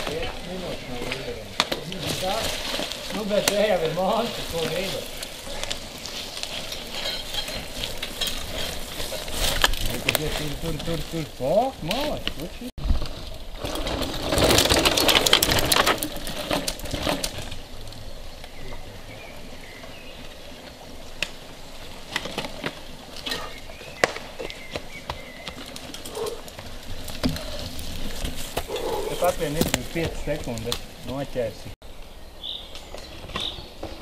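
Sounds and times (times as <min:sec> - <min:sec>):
mountain bike tyres on dirt trail: 0:00.0 - 0:34.0.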